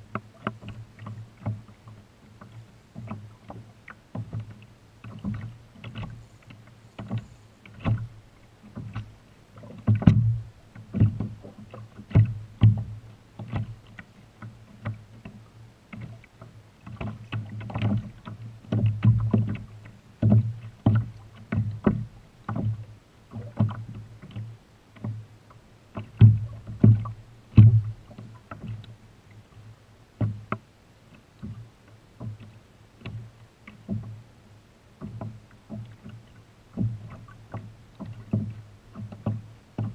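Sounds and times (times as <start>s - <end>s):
waves lapping against kayak hull: 0.0s - 39.9s.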